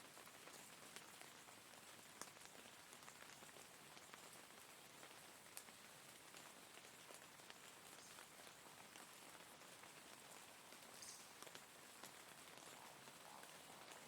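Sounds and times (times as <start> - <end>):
faint rain hiss: 0.0 - 14.0
raindrops ticking on a surface: 0.0 - 14.0.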